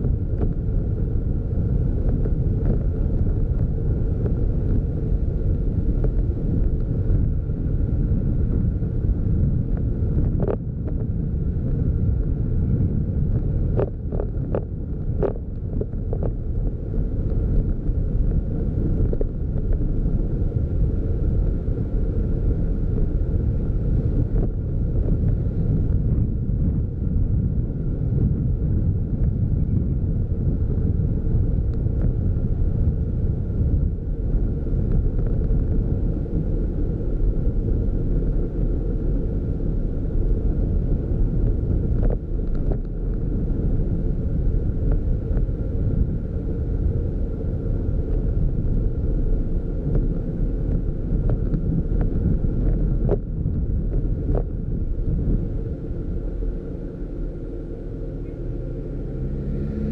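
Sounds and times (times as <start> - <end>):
faint steady whine: 0.0 - 59.9
vehicle road and engine rumble: 0.0 - 59.9
wind buffeting microphone: 0.0 - 59.9.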